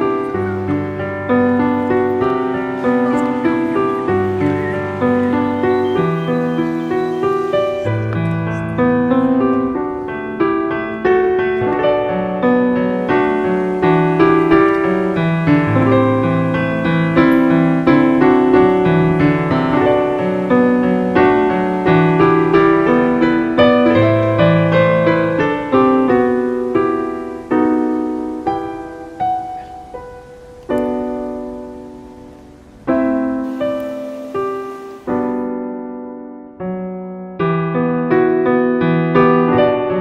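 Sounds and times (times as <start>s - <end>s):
gentle piano music: 0.0s - 40.0s.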